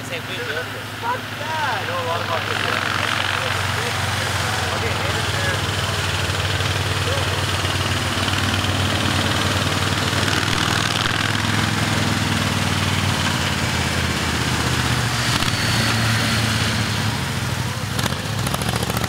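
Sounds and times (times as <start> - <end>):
motorcycle engine passing: 0.0 - 19.0.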